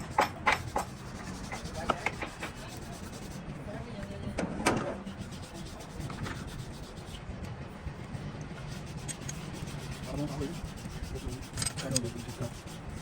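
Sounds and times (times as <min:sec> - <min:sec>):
steady rubbing or scraping: 0:00.0 - 0:04.2, 0:04.8 - 0:13.0.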